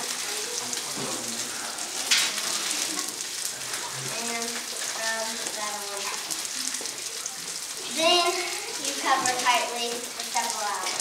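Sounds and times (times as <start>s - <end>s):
steak sizzling in a pan: 0.0s - 11.0s.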